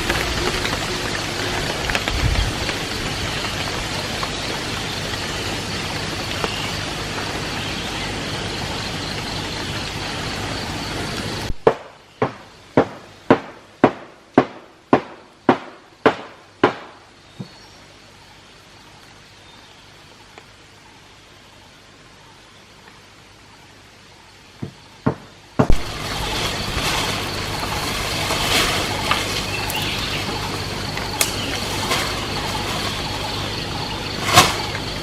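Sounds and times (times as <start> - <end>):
heavy rain: 0.0 - 14.3, 17.8 - 35.0.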